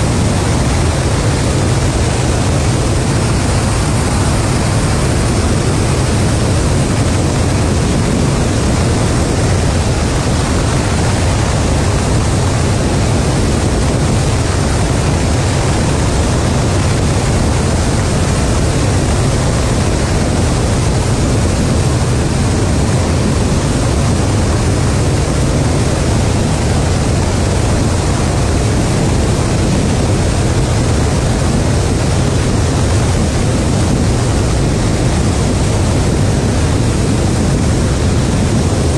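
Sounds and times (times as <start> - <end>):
jet engines and airstream rushing: 0.0 - 38.9.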